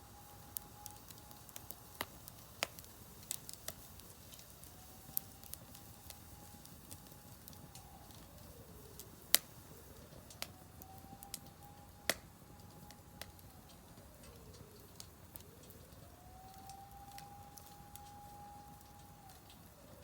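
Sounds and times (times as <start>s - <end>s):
wood fire crackling: 0.0s - 20.0s
sharp fire pops: 0.5s - 19.8s.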